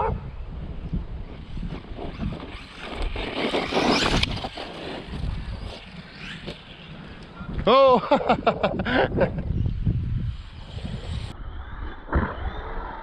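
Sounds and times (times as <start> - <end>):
rc truck tyres scraping dirt: 0.5 - 11.4.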